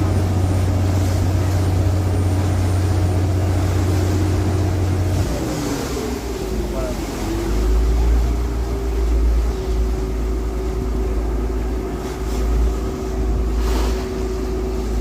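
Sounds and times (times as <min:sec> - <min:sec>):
large vehicle engine rumble: 0:00.0 - 0:15.0.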